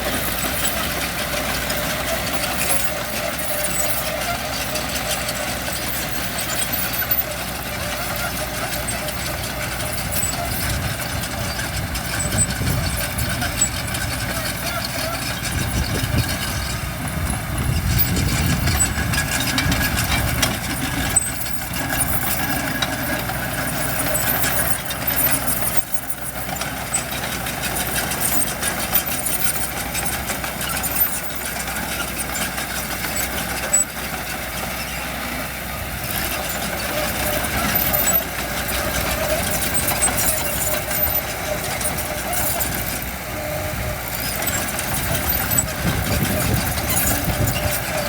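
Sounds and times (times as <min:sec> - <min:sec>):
heavy diesel engines running: 0:00.0 - 0:48.0.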